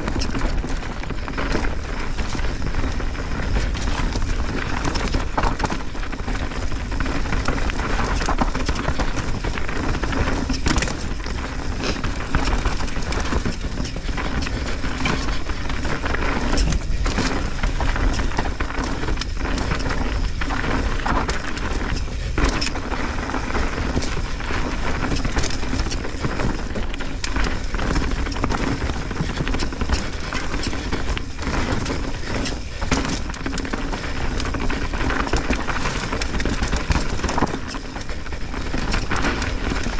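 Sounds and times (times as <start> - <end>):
bike knocking and rattling: 0.0 - 39.9
tyres rushing on dirt: 0.0 - 39.9.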